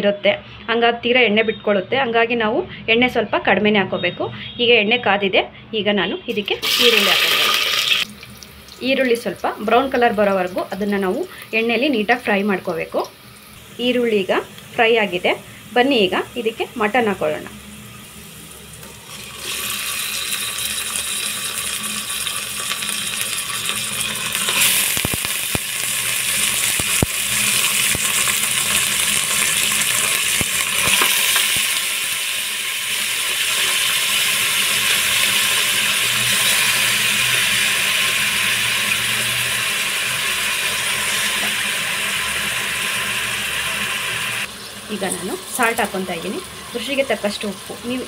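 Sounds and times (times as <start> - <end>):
meat sizzling in hot oil: 6.6 - 48.0.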